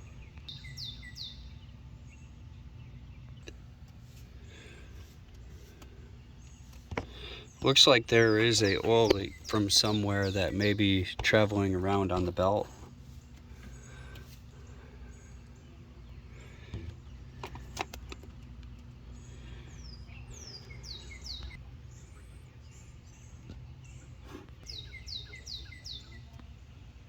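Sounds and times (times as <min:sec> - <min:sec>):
bird chirping: 0:00.0 - 0:27.0.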